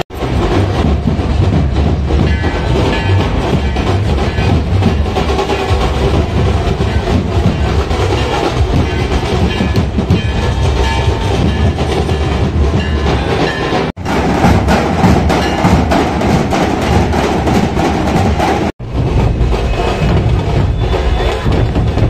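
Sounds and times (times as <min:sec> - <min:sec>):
drums beating fast rhythm: 0:00.0 - 0:22.0
procession music with heavy beat: 0:00.1 - 0:22.0.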